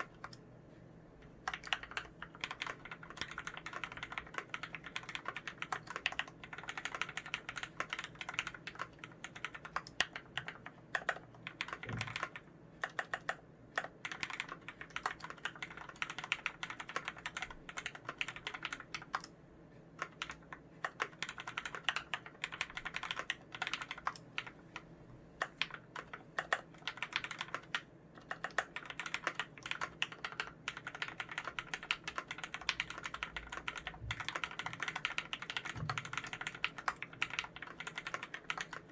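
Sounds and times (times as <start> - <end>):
mechanical keyboard typing: 0.0 - 0.4, 1.4 - 38.9.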